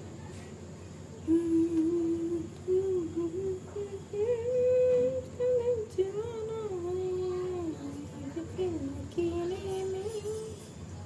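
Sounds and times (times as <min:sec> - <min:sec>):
person humming a slow tune: 0:01.2 - 0:10.7.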